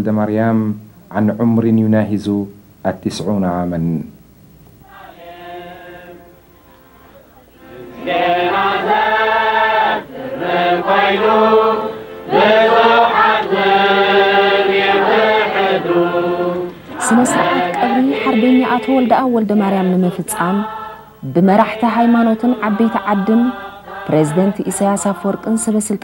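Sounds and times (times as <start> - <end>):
group chanting a hymn: 4.8 - 26.0.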